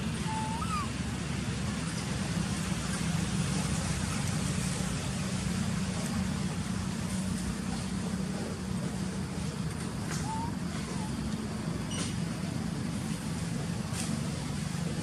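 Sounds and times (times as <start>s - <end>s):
steady low rumble with hiss: 0.0s - 15.0s.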